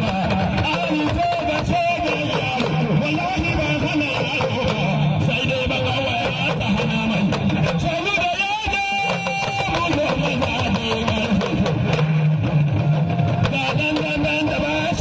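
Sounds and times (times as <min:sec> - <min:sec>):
talking drums playing: 0:00.0 - 0:15.0.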